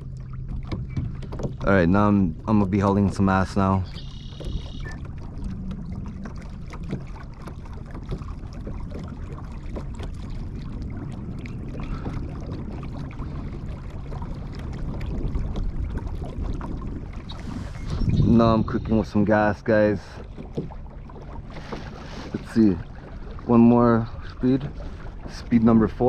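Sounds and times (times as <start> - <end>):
water and wind rushing: 0.0 - 26.0.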